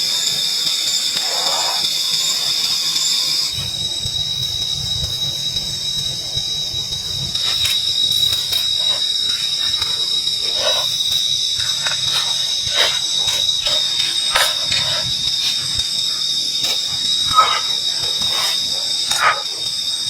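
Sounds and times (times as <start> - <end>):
hiss: 0.0 - 20.0.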